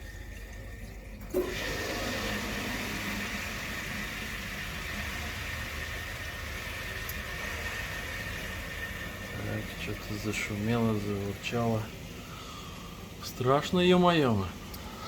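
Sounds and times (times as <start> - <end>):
boiler running with low hum: 0.0 - 15.0.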